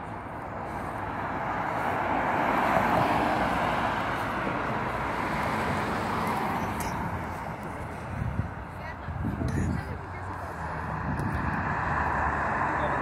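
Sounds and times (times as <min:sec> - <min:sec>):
car passing close by: 0:00.6 - 0:08.6, 0:10.1 - 0:13.0.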